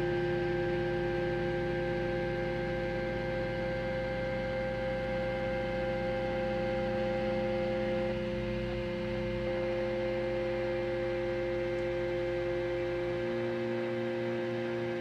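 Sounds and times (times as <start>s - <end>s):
printer low hum: 0.0s - 15.0s.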